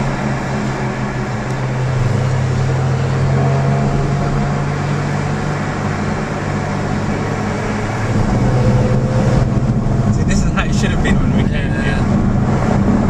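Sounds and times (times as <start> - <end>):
car engine cruising: 0.0 - 13.0
road noise: 0.0 - 13.0.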